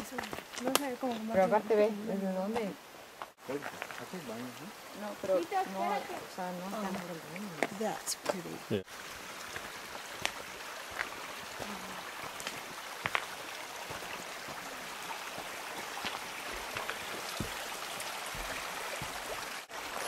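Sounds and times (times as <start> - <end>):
running water hiss: 0.0 - 20.0.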